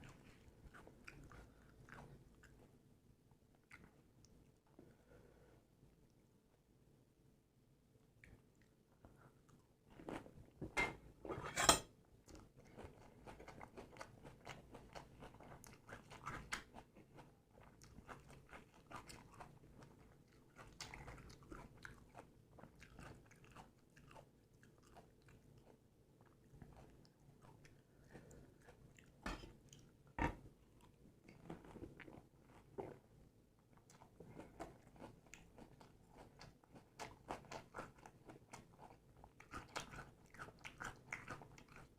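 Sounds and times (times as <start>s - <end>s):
crackly chewing: 0.0s - 2.8s, 3.5s - 4.7s, 12.2s - 41.9s.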